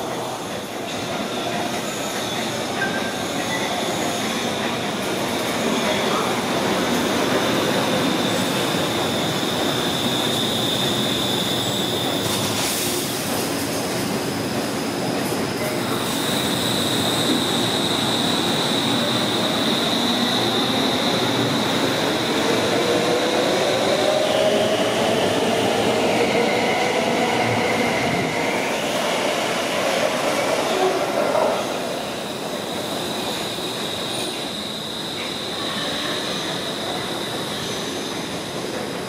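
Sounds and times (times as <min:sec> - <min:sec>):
train running past: 0:00.0 - 0:39.0.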